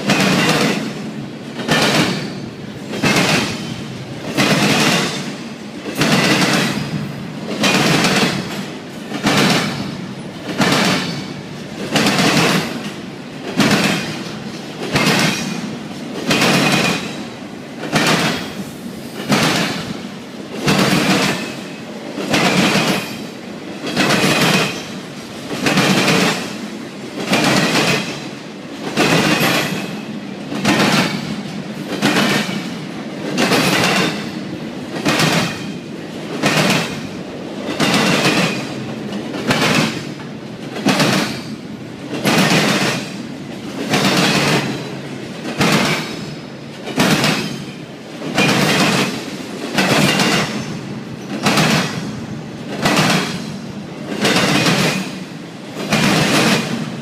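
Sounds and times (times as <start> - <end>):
freight train rumble: 0.0 - 57.0
train wheels clacking over rail joints: 0.0 - 57.0.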